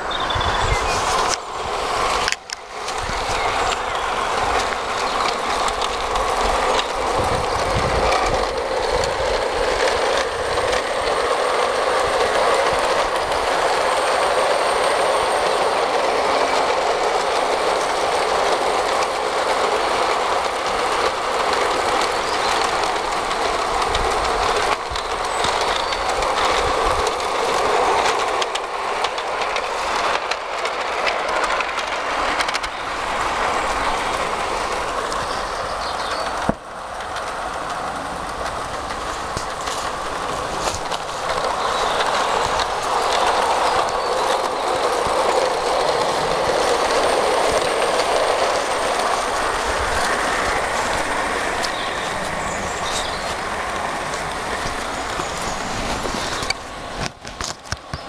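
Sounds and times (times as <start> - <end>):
model train motor whirring: 0.0 - 58.0.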